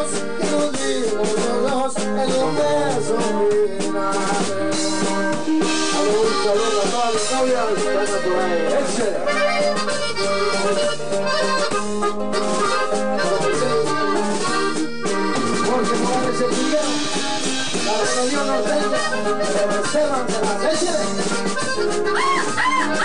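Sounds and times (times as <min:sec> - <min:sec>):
button accordion melody: 0:00.0 - 0:23.0
guitar accompaniment: 0:00.0 - 0:23.0.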